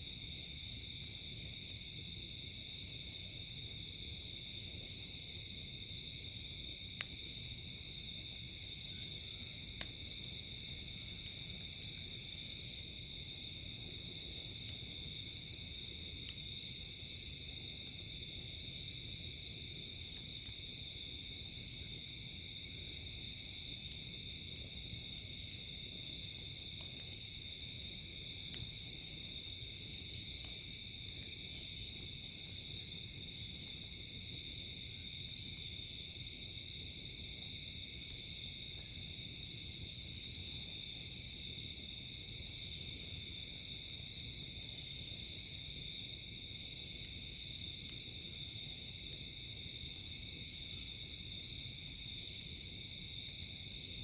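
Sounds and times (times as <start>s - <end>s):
crickets and insects buzzing: 0.0s - 54.0s
high pulsing insect call: 0.0s - 54.0s
low steady hiss: 0.0s - 54.0s.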